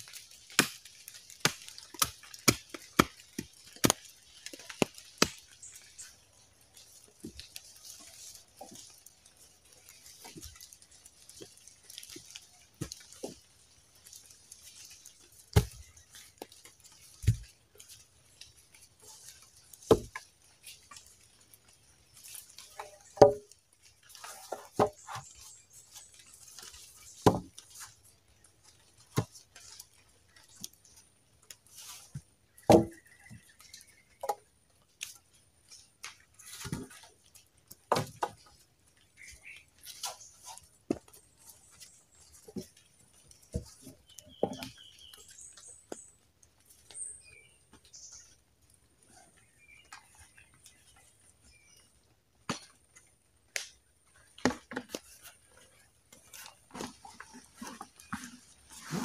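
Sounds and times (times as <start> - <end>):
wooden logs knocking and thudding: 0.0 - 59.0.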